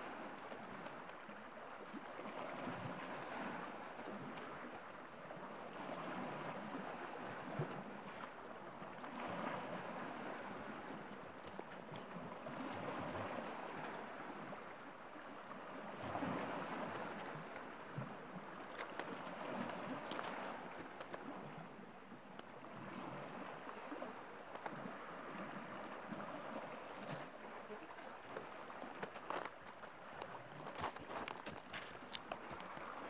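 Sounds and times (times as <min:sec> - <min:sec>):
waves lapping against rocks: 0:00.0 - 0:33.0.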